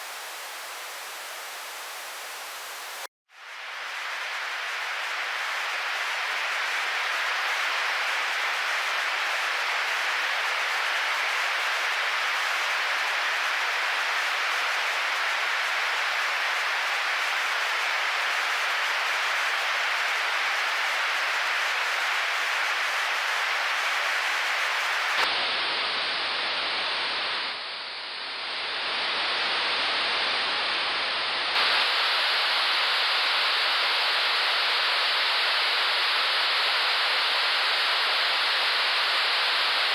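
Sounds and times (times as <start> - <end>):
white static hiss: 0.0 - 39.9.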